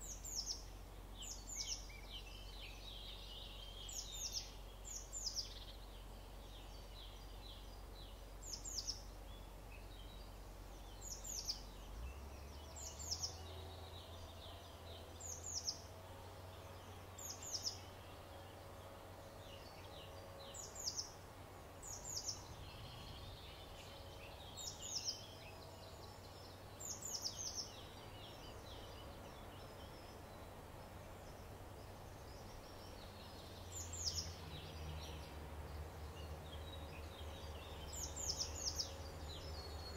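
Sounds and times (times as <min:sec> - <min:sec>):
faint low hum: 0:00.0 - 0:39.9
songbirds chirping: 0:00.0 - 0:39.9.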